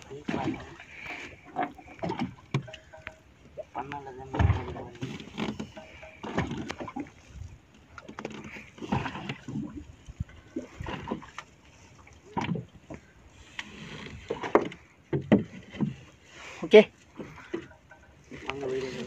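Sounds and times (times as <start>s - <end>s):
water sloshing against boat hull: 0.0s - 19.0s.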